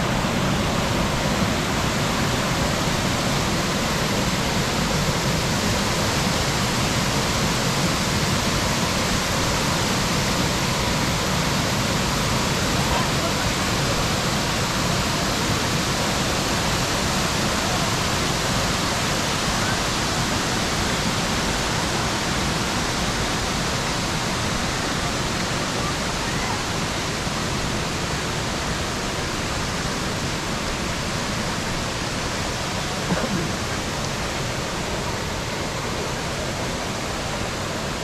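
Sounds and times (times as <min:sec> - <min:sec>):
rushing water: 0:00.0 - 0:38.0.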